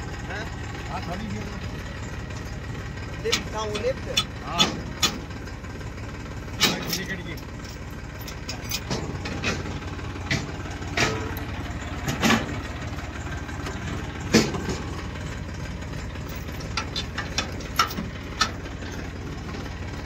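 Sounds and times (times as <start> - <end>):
tractor engine idling: 0.0 - 20.0
sharp metal clanks: 0.9 - 5.6, 6.5 - 20.0.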